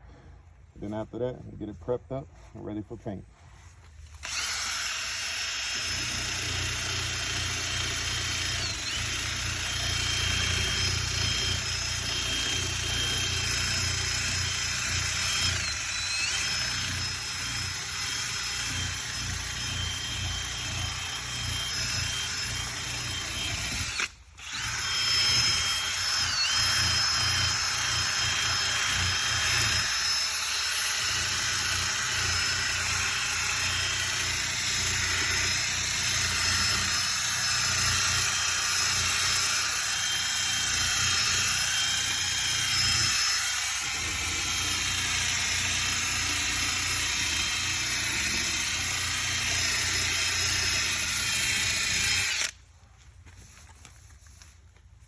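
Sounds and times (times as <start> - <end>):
drill sanding paint off metal: 4.2 - 52.5.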